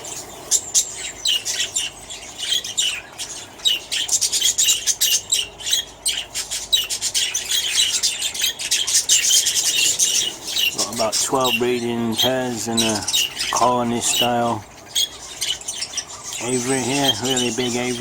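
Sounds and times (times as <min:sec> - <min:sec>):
budgerigars chirping and squawking: 0:00.0 - 0:18.0.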